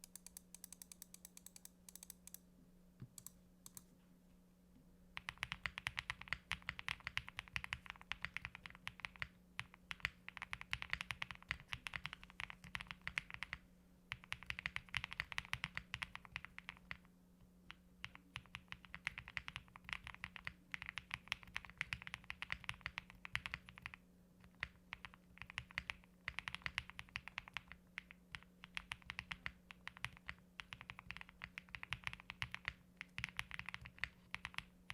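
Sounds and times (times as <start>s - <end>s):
mechanical keyboard typing: 0.0s - 2.4s, 3.0s - 3.8s, 5.2s - 17.0s, 17.7s - 34.9s.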